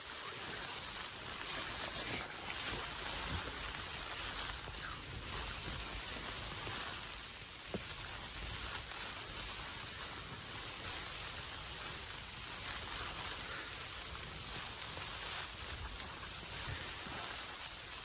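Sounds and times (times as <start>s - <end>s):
hiss of wind-driven snow: 0.0s - 18.0s
wind rumble on microphone: 0.2s - 18.0s.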